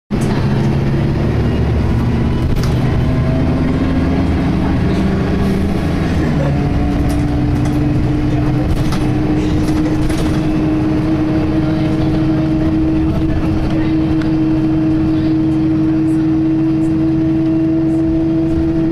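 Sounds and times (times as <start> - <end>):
bus engine whine: 0.1 - 18.9.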